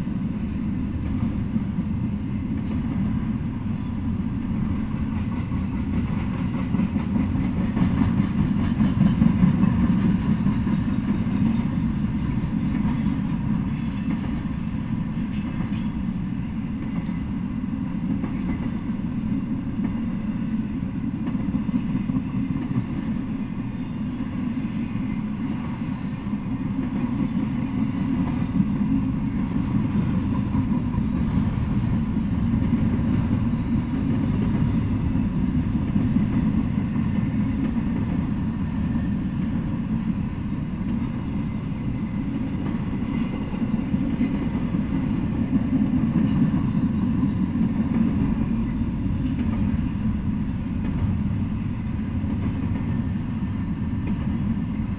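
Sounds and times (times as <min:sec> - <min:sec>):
freight train wheels on rails: 0:00.0 - 0:54.9.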